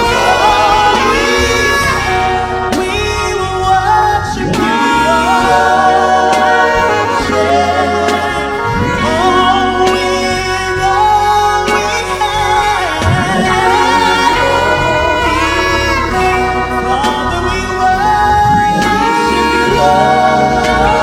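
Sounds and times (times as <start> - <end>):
gospel voices singing: 0.0 - 21.0
low bass accompaniment: 0.0 - 21.0.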